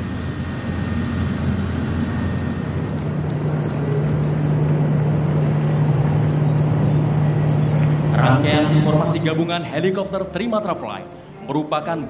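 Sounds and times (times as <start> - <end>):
helicopter rotor and turbine drone: 0.0 - 11.5
steady low hum: 0.0 - 11.5.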